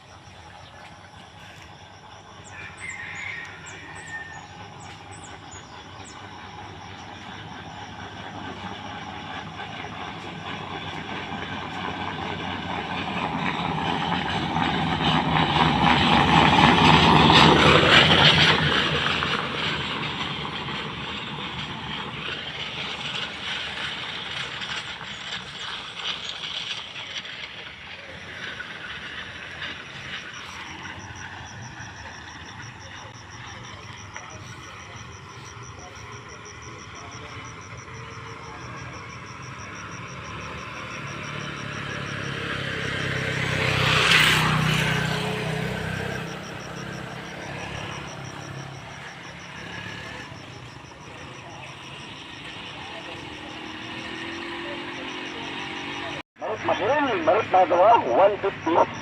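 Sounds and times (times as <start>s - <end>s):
rattling vehicle passing: 0.0s - 59.0s.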